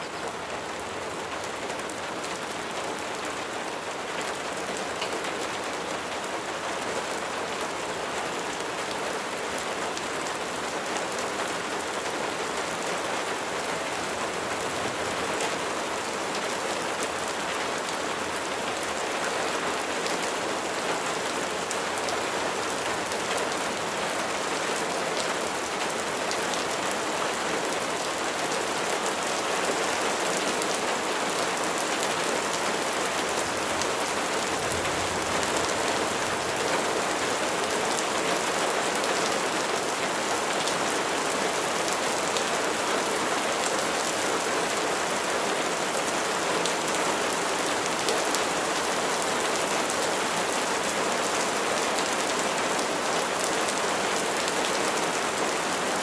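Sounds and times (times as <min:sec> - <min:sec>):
rain ticking on a surface: 0:00.0 - 0:56.0.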